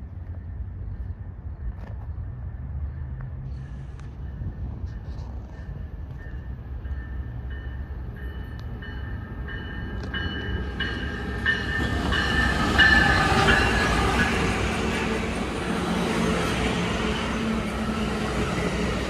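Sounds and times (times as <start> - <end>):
diesel locomotive engine rumble: 0.0 - 19.0
train wheel noise: 0.0 - 19.0.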